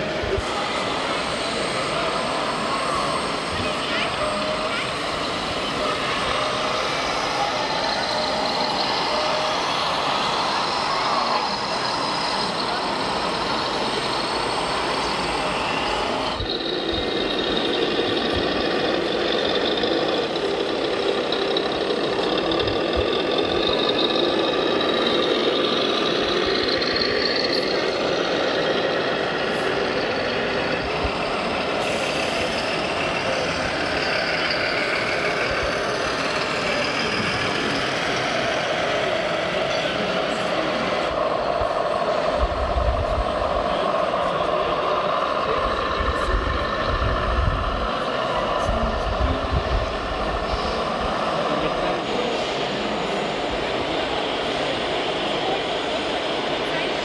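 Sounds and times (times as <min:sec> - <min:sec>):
busy hall din: 0:00.0 - 0:57.0
diesel lorry engine noise: 0:00.0 - 0:57.0
reversing beeper: 0:00.0 - 0:57.0.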